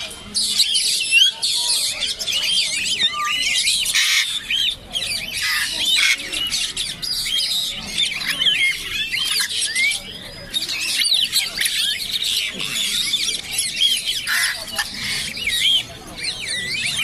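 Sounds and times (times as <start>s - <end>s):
birds chirping and squawking: 0.0s - 17.0s.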